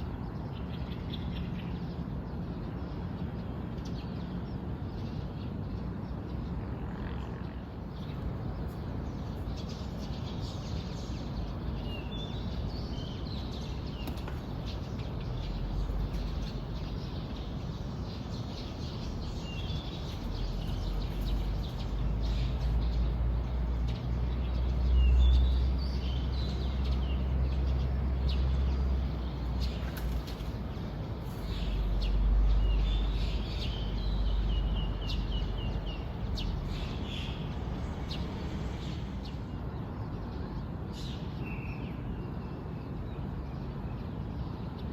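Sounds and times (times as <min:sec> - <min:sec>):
small birds chirping: 0:07.4 - 0:44.9.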